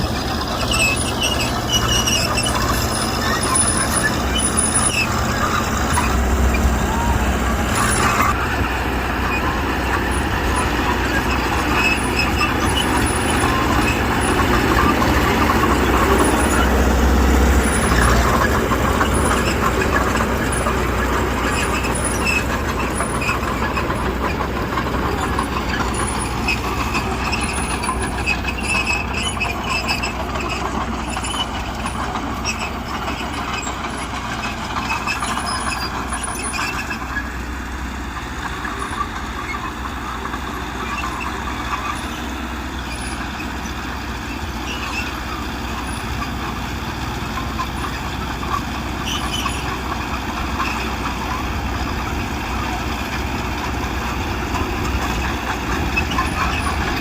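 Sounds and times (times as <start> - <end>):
heavy machinery diesel engine rumble: 0.0 - 57.0.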